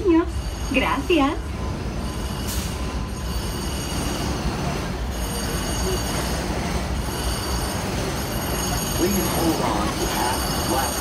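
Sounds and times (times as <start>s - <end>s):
tram motor and wheels rumbling: 0.0s - 11.0s.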